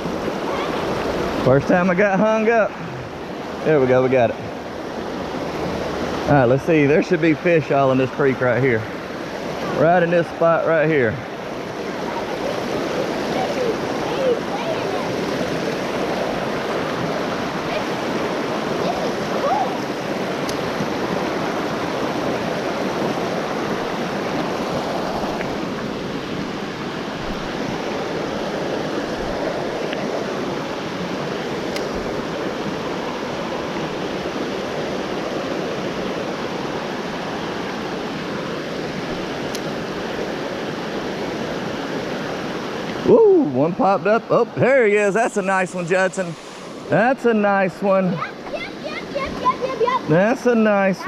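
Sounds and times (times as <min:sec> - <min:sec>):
creek water rushing over rocks: 0:00.0 - 0:51.0.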